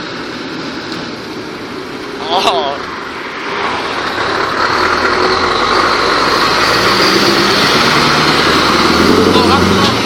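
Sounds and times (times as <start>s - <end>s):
truck diesel engine driving past: 0.0s - 10.0s.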